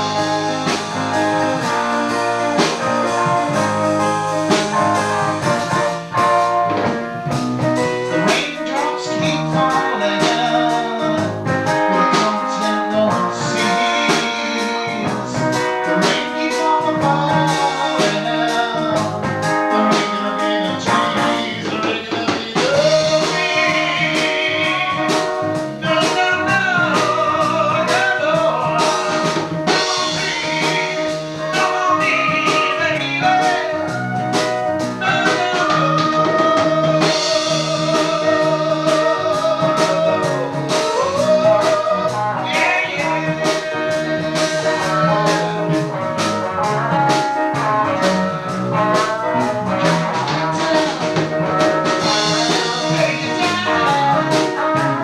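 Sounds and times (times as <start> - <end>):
drum beat: 0.0 - 55.0
guitar: 0.0 - 55.0
person singing: 0.0 - 55.0.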